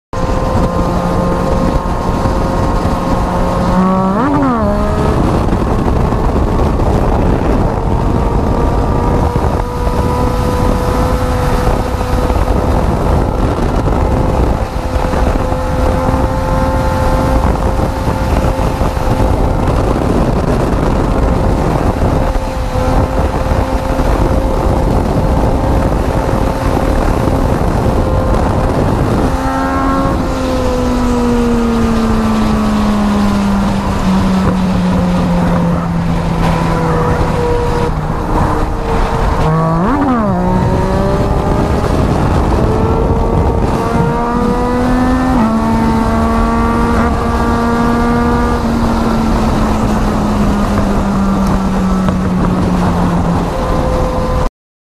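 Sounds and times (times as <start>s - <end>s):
wind on microphone: 0.1s - 54.5s
motorcycle engine revving: 0.2s - 54.5s.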